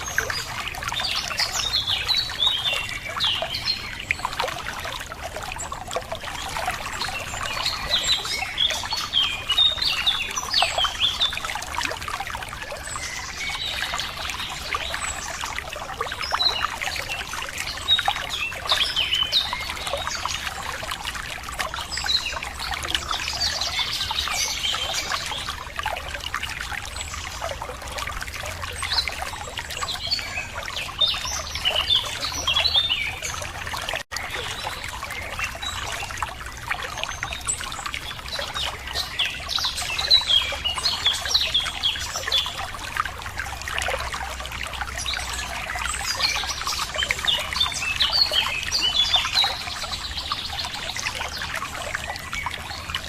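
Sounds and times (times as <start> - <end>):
small birds chirping: 0.0 - 42.9, 43.5 - 53.0
water trickling: 0.0 - 53.0.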